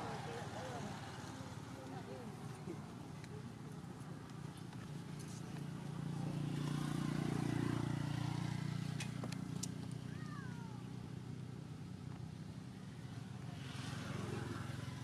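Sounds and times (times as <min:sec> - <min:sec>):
vehicle engine passing by: 0:00.0 - 0:03.1, 0:04.2 - 0:11.8, 0:12.4 - 0:15.0.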